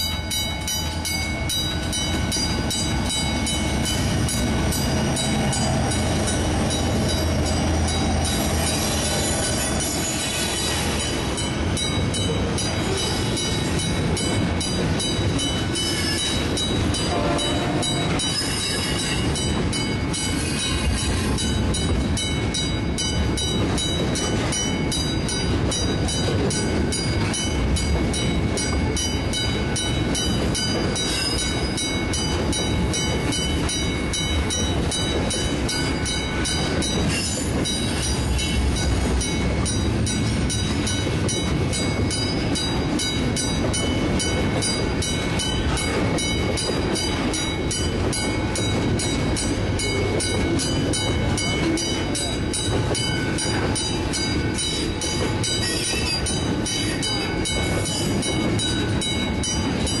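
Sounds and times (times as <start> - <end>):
crossing warning bell ringing: 0.0 - 60.0
freight train rumbling on track: 0.0 - 60.0.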